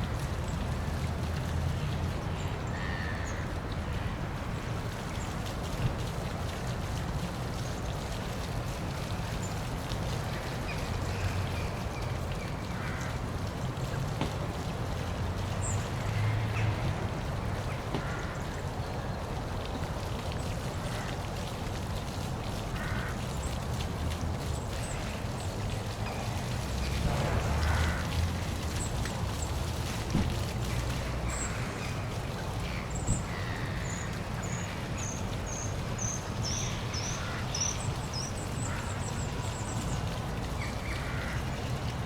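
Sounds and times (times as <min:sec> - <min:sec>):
waterfall splashing: 0:04.7 - 0:42.0.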